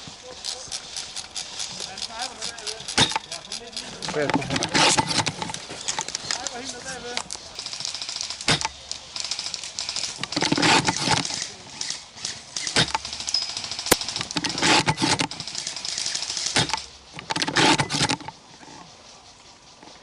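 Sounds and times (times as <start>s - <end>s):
airsoft guns firing rapid clicks: 0.5s - 18.3s.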